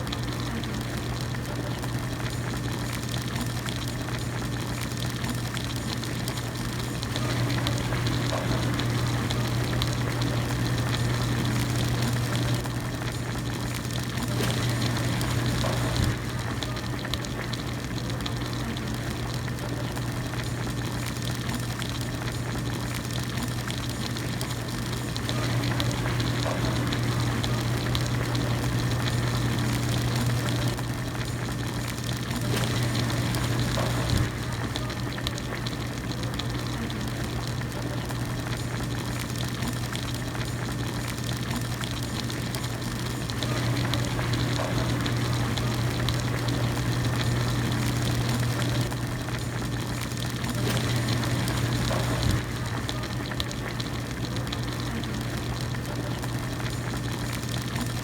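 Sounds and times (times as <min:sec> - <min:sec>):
broth boiling and bubbling: 0:00.0 - 0:58.0.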